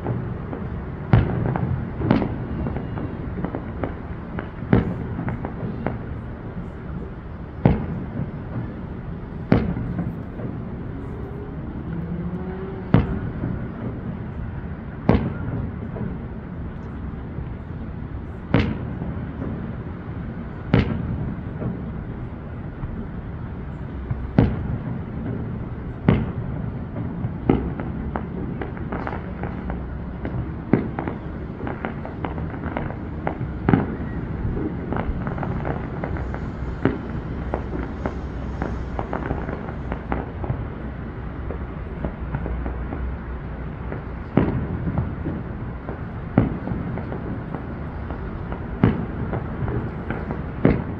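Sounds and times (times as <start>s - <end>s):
small firework pops: 0.0s - 14.4s, 15.0s - 17.6s, 18.4s - 19.8s, 20.6s - 22.1s, 24.0s - 50.9s.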